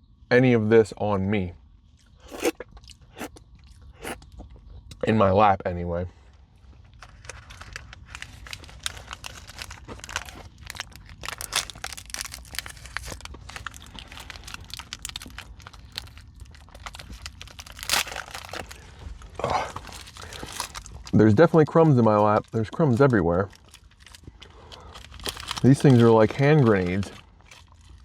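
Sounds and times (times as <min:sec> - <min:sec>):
granola bars crunching: 0:02.2 - 0:04.3, 0:06.9 - 0:21.2, 0:22.0 - 0:28.0.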